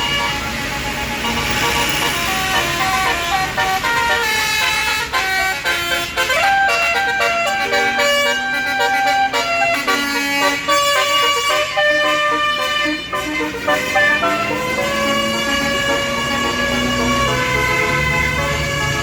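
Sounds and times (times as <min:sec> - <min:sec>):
bus horn playing a tune: 0:00.0 - 0:19.0.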